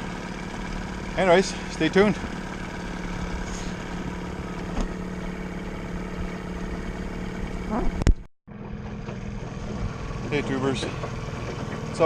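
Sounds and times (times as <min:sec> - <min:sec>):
outboard motor humming: 0:00.0 - 0:12.0.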